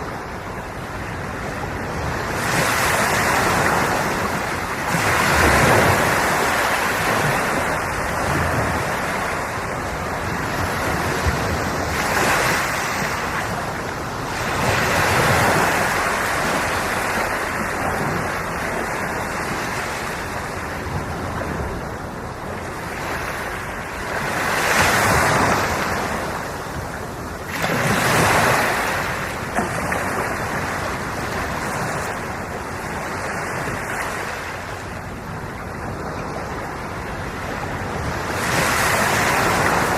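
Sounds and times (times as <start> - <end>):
sea waves breaking on shore: 0.0 - 39.9
wind on microphone: 0.0 - 39.9.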